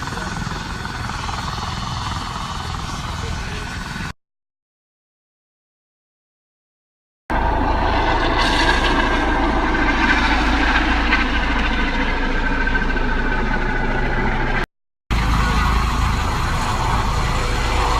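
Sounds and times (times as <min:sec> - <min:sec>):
helicopter rotor and engine: 0:00.0 - 0:04.2, 0:07.3 - 0:17.9.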